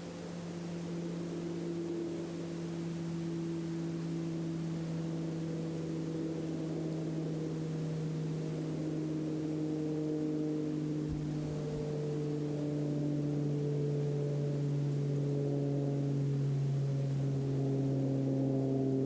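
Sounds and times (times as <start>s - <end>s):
faint background hiss: 0.0s - 19.0s
low hum with overtones: 0.0s - 19.0s.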